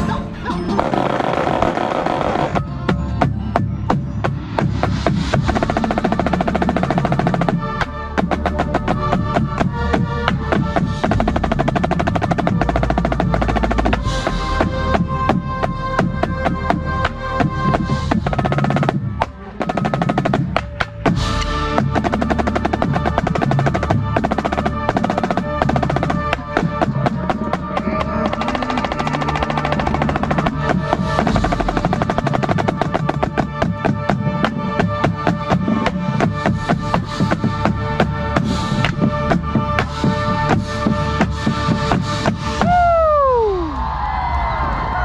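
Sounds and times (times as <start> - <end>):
drum corps playing: 0.0 - 43.5
marching snare drum rolls: 0.8 - 42.9.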